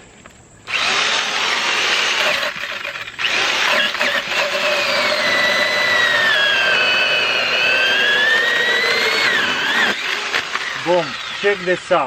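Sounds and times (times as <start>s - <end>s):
electric chainsaw cutting log: 0.6s - 12.0s.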